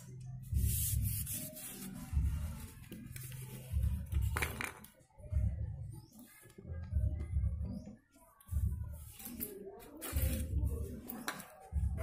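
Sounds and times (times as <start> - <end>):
music with slow low beat: 0.0 - 9.4, 10.0 - 12.0.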